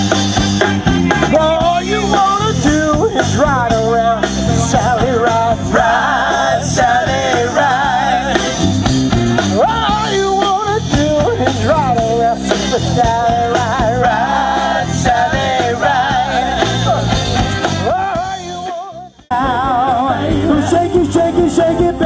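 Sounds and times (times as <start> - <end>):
bass and drums groove: 0.0 - 22.0
live rock band: 0.0 - 22.0.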